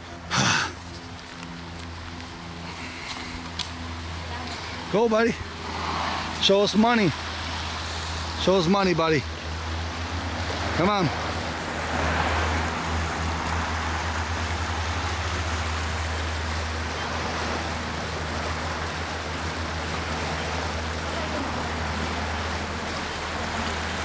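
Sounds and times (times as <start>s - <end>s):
creek rushing: 0.0s - 24.0s.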